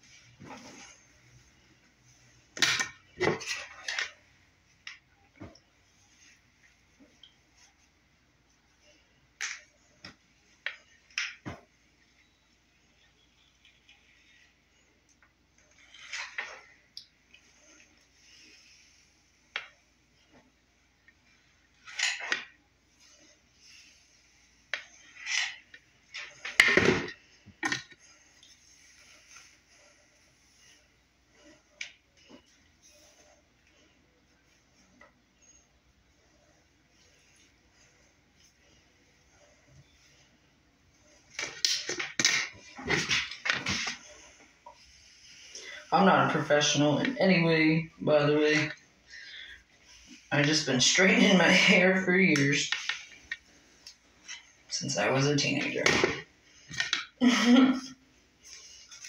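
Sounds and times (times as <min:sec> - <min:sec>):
hair rustling and brushing: 0:00.0 - 0:59.0.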